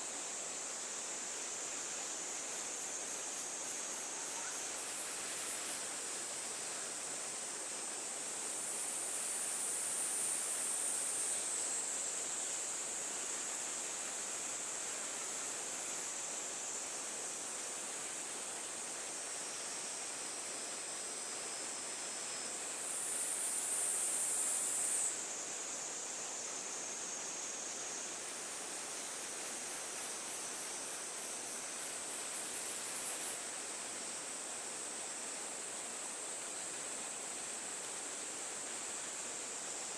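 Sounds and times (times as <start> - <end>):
high-pitched insect chorus: 0.0 - 39.9
outdoor hiss: 0.0 - 39.9.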